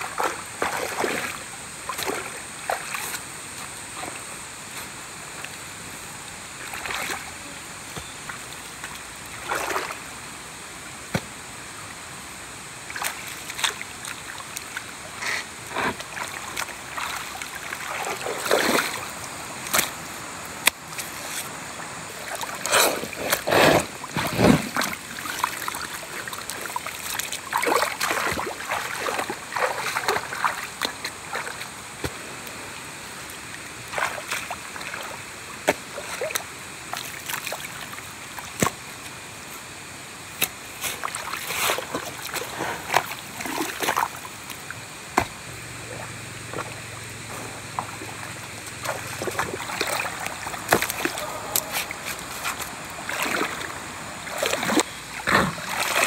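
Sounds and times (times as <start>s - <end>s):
water splashing and sloshing: 0.0s - 10.4s, 11.0s - 56.0s
steady background hiss: 0.0s - 56.0s.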